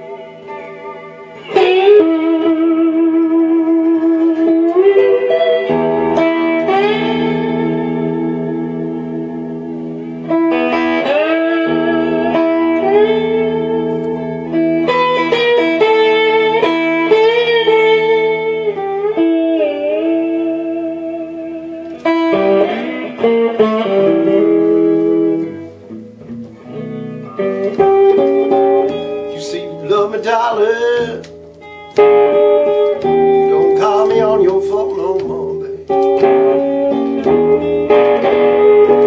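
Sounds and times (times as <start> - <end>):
slide electric guitar: 0.0 - 39.0.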